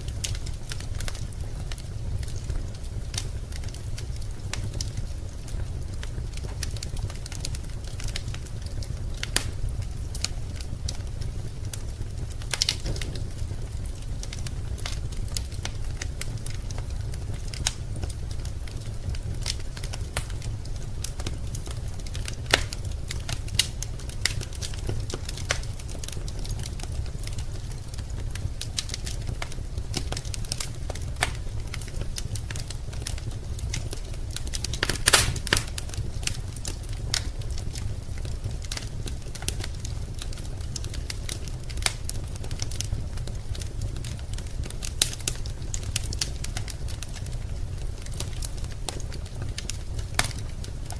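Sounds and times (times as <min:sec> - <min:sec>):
fire low rumble: 0:00.0 - 0:50.9
wood fire crackling and popping: 0:00.0 - 0:50.9.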